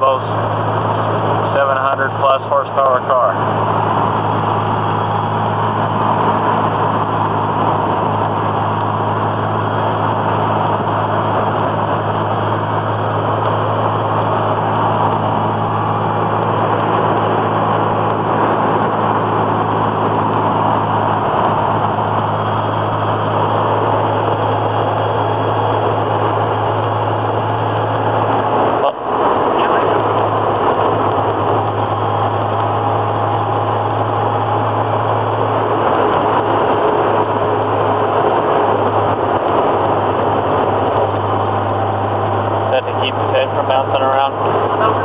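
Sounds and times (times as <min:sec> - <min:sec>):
air conditioning blowing: 0:00.0 - 0:45.0
car engine drone: 0:00.0 - 0:45.0
road noise: 0:00.0 - 0:45.0.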